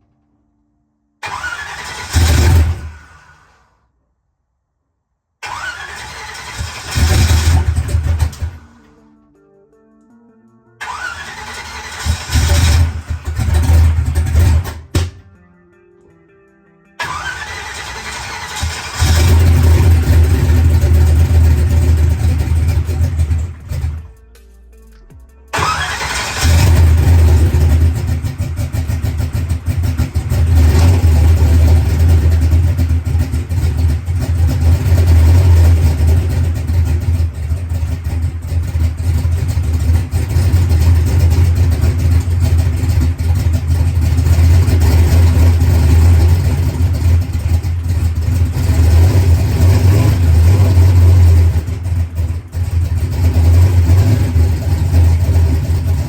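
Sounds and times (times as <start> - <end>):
race car engine revving: 1.2 - 3.5, 5.4 - 8.9, 10.8 - 15.0, 17.0 - 24.1, 25.6 - 56.0.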